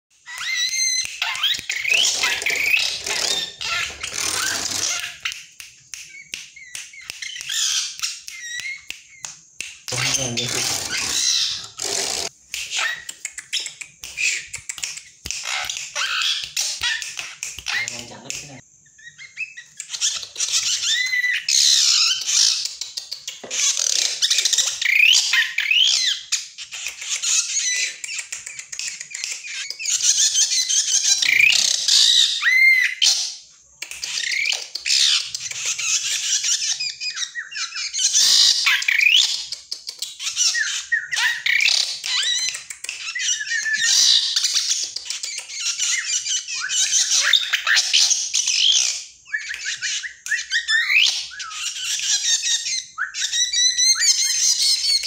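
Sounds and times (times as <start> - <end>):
bird singing harsh chatters and whistles: 0.2 - 55.0.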